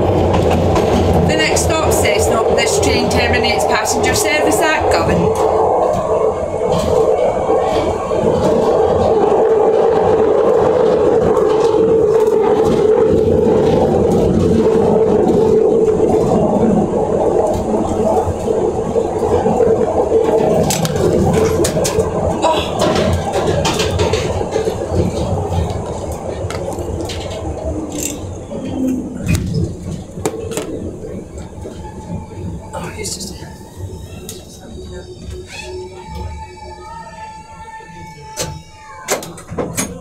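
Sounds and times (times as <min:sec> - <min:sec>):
constant droning tone: 0:00.0 - 0:40.0
subway train rumbling in tunnel: 0:00.0 - 0:40.0.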